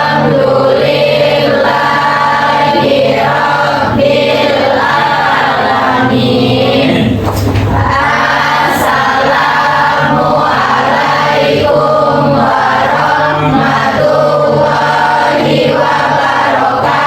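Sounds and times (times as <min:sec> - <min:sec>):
students reciting in unison: 0:00.0 - 0:17.0.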